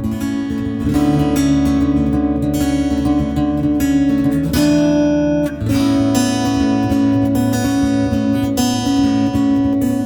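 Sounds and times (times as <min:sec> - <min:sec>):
strummed acoustic guitar chords: 0:00.0 - 0:10.0.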